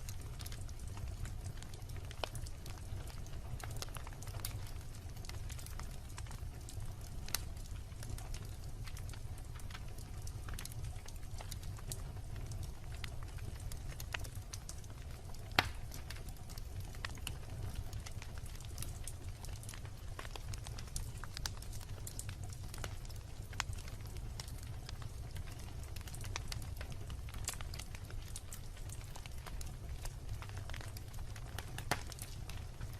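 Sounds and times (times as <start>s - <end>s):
bonfire crackling and popping: 0.0s - 32.9s
low steady fire rumble: 0.0s - 32.9s.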